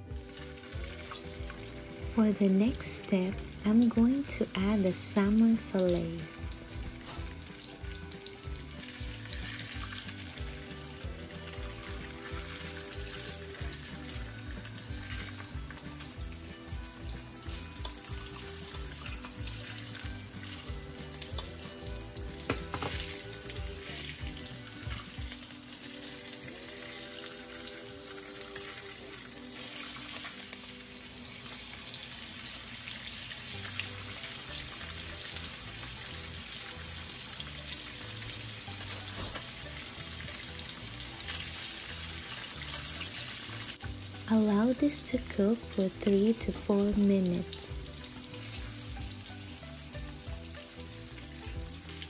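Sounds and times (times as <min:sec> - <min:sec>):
fish sizzling in a pan: 0:00.0 - 0:52.0
soft background music: 0:00.0 - 0:52.0.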